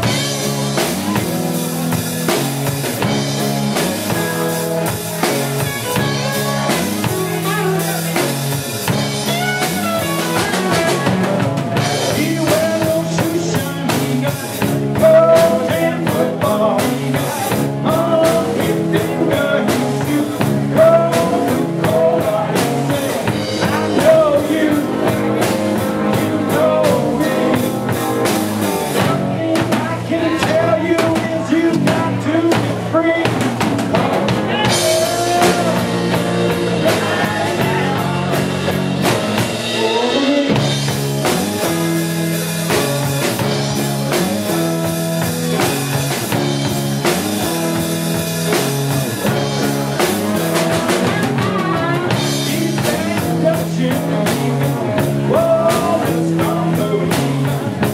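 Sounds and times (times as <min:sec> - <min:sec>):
drum kit: 0:00.0 - 0:57.9
live rock band playing: 0:00.0 - 0:57.9.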